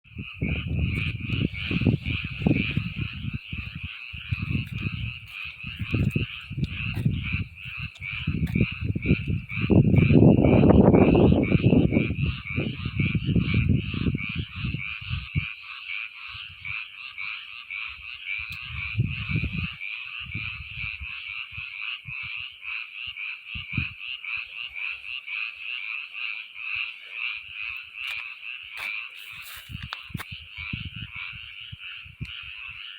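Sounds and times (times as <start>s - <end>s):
frogs croaking in chorus: 0.1s - 32.9s.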